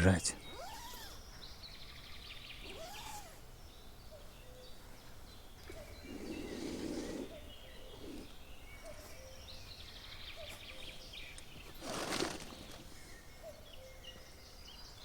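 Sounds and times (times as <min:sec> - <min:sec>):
small bird chirps: 0:00.0 - 0:15.0.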